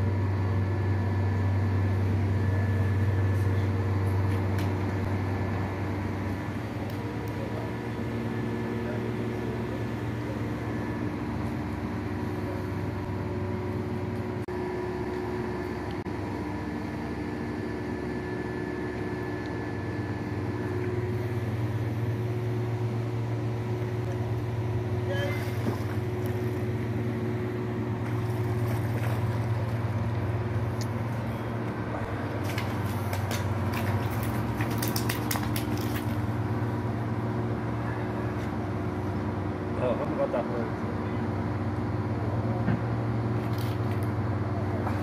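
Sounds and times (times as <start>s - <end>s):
boat engine drone: 0.0s - 45.0s.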